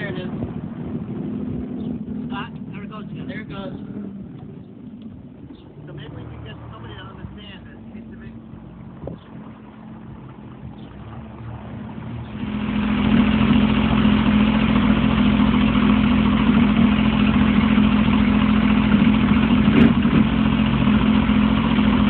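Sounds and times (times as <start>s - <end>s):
jet ski engine droning: 0.0s - 22.0s.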